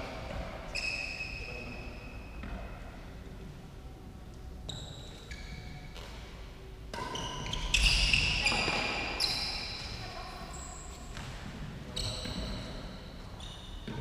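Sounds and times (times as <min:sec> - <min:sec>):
shoes squeaking on court floor: 0:00.2 - 0:02.8, 0:04.6 - 0:06.4, 0:07.0 - 0:14.0.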